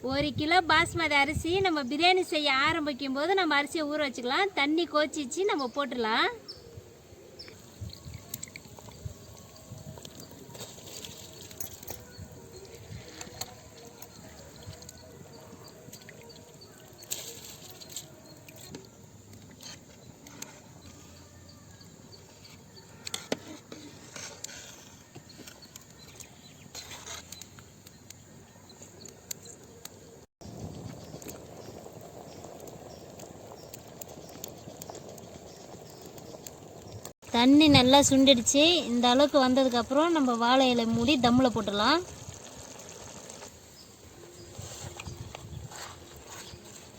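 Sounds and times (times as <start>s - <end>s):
pot boiling with bubbling: 7.4s - 29.1s, 30.4s - 46.9s.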